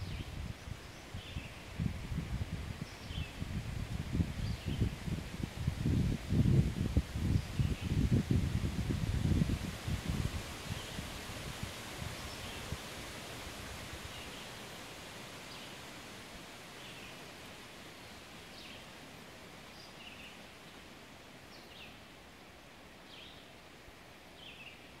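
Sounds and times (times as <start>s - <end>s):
wind rustling leaves: 0.0s - 25.0s.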